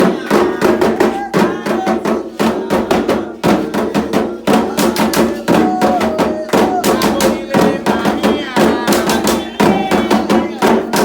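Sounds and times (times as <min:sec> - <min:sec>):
hand drums playing fast rhythm: 0:00.0 - 0:11.0
voices singing: 0:00.0 - 0:11.0.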